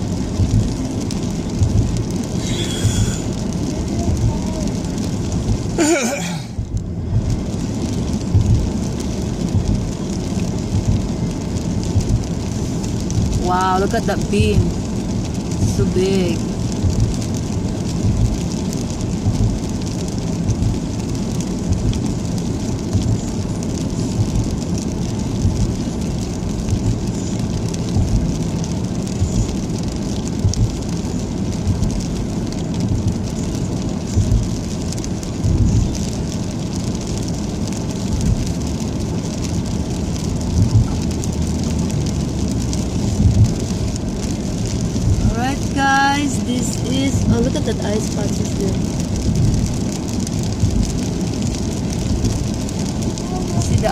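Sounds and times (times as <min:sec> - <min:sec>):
rain on moving car: 0:00.0 - 0:53.9.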